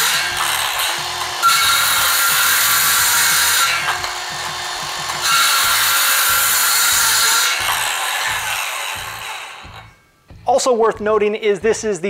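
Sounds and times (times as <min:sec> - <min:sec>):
circular saw cutting wood: 0:00.0 - 0:10.0.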